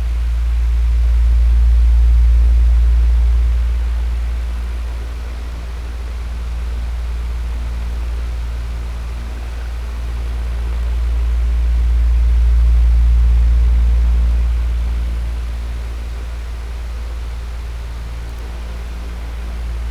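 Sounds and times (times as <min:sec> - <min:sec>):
electric fan humming and hissing: 0:00.0 - 0:19.9.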